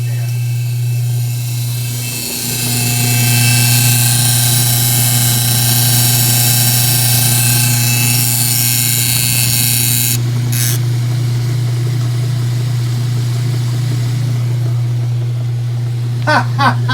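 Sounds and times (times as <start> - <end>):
washing machine motor hum: 0.0 - 16.9.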